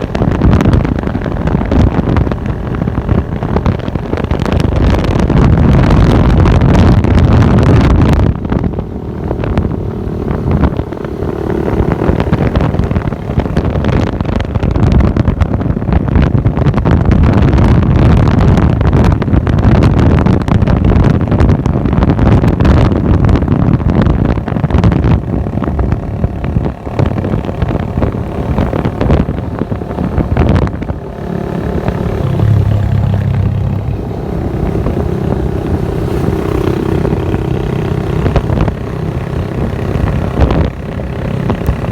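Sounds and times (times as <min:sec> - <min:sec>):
motorcycle engine running rough: 0:00.0 - 0:41.9
wind buffeting microphone: 0:00.0 - 0:41.9.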